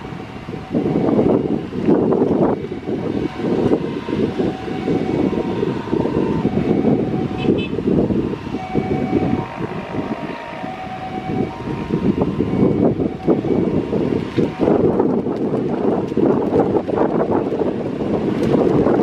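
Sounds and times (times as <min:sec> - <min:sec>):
jet engines rumbling: 0:00.0 - 0:19.0
wind buffeting microphone: 0:00.0 - 0:19.0.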